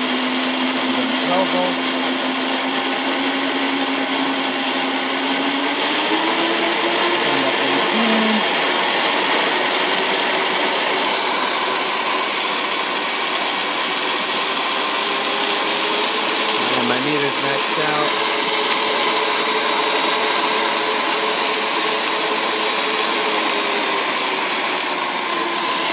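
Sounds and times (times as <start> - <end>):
electric motors whining: 0.0 - 25.9.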